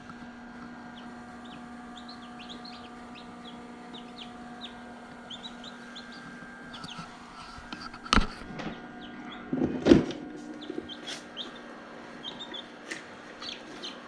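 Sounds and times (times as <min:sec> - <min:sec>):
steady low hum: 0:00.0 - 0:14.0
chicks peeping: 0:00.1 - 0:09.6, 0:10.4 - 0:14.0.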